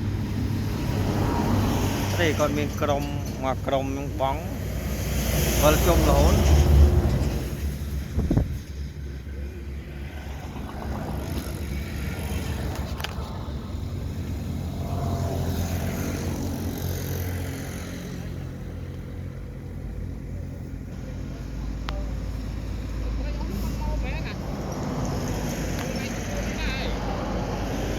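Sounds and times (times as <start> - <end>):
motor engine rumbling: 0.0 - 27.9.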